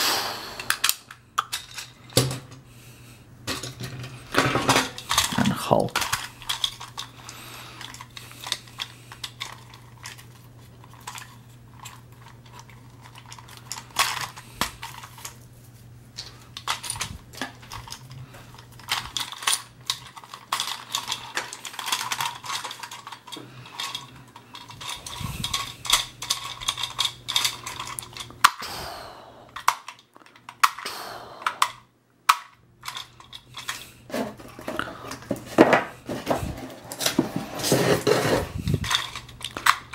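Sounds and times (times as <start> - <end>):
steady low hum: 0.0 - 39.9
plastic toys clicking and rattling: 0.6 - 2.6, 3.5 - 15.4, 16.2 - 28.6, 29.5 - 39.9.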